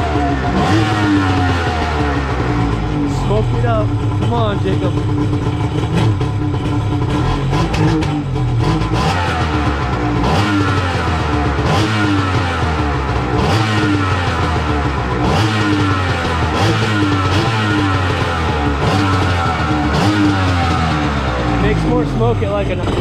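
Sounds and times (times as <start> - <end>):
jet ski engine revving: 0.0 - 23.0.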